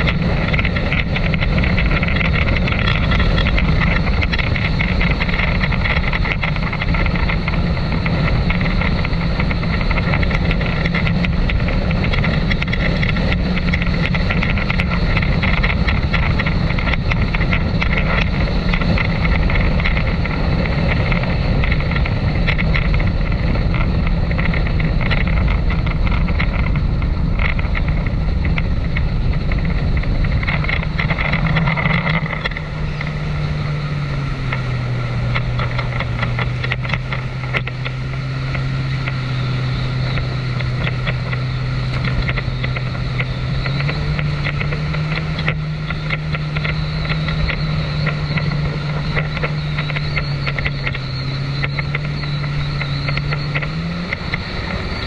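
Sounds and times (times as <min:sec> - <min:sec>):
jet ski engine: 0:00.0 - 0:55.0.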